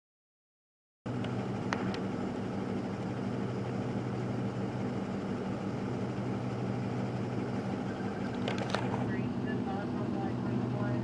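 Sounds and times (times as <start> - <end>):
truck engine idling: 1.1 - 11.0.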